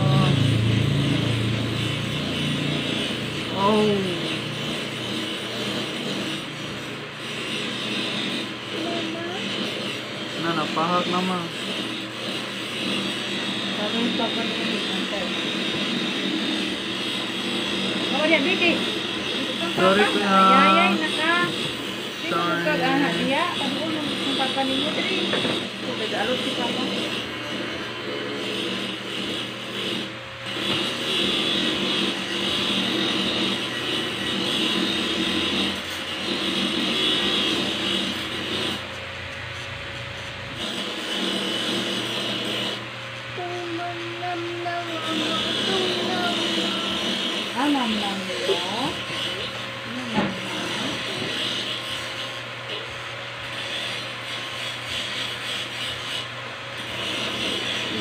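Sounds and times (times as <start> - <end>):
clippers rasping through hair: 0.0 - 58.0
electric hair clippers buzzing: 0.0 - 58.0.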